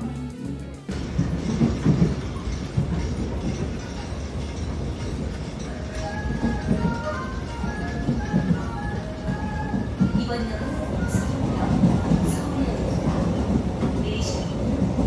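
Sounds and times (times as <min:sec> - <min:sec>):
music: 0:00.0 - 0:14.6
train rumbling on rails: 0:00.0 - 0:15.0
wheels knocking on track: 0:00.9 - 0:15.0.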